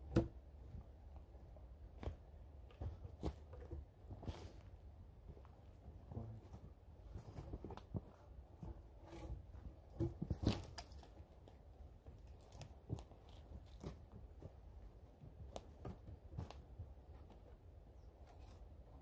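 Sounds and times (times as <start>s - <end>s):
wooden logs knocking and scraping: 0.0s - 19.0s.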